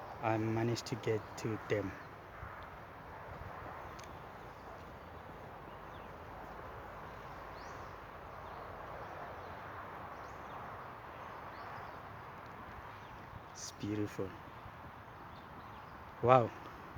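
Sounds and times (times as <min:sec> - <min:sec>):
steady outdoor hiss: 0:00.0 - 0:16.9.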